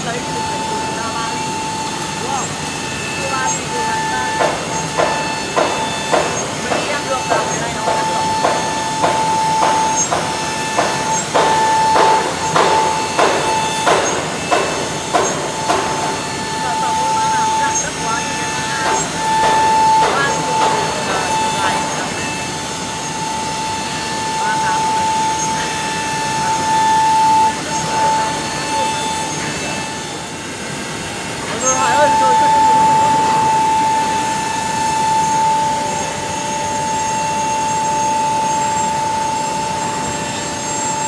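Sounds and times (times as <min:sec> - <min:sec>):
router spindle cutting wood: 0:00.0 - 0:41.0.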